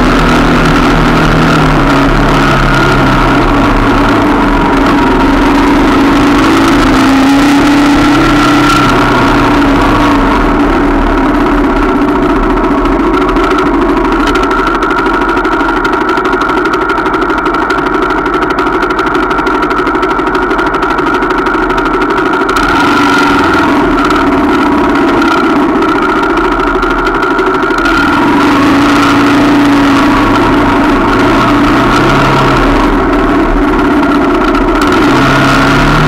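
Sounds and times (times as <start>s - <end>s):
motorcycle engine idling: 0.0s - 36.0s
trail bike engines: 0.0s - 36.0s.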